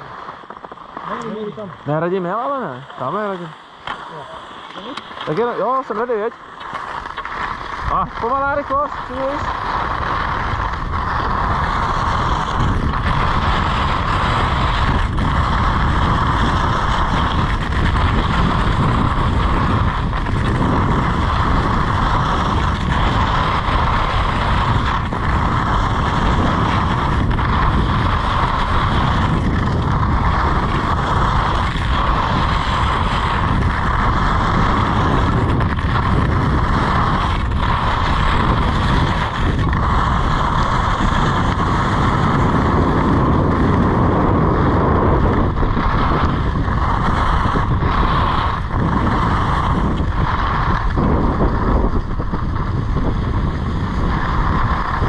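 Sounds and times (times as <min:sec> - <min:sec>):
skis scraping on snow: 0:00.0 - 0:55.0
wind rushing on microphone: 0:01.0 - 0:55.0.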